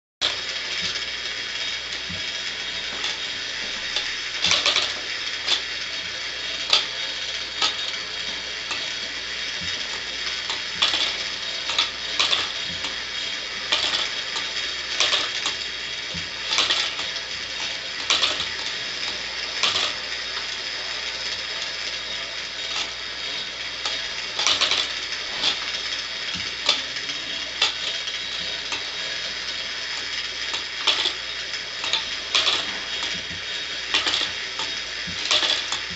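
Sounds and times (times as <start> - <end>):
clockwork whirring: 0.2 - 35.9.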